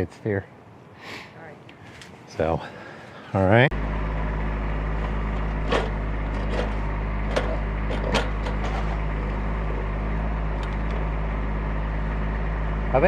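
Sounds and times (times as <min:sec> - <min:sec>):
diesel engine running: 0:02.5 - 0:13.0.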